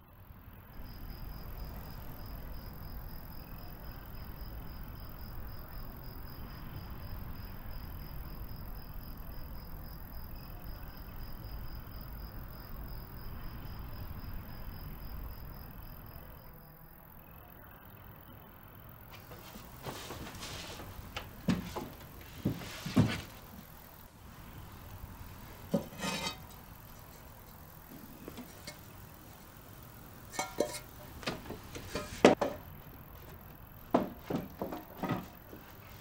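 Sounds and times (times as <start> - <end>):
faint insect trills: 0.1 - 36.0.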